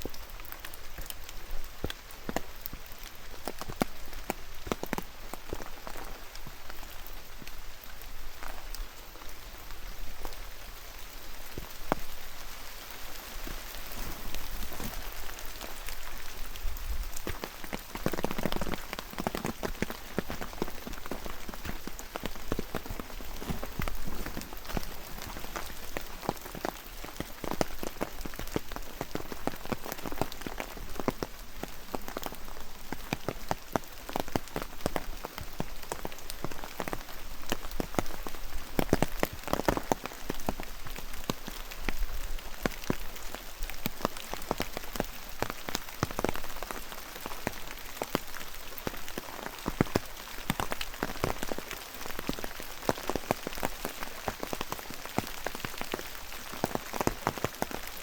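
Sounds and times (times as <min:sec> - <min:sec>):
raindrops tapping nearby: 0:00.0 - 0:58.0
steady rain: 0:00.0 - 0:58.0.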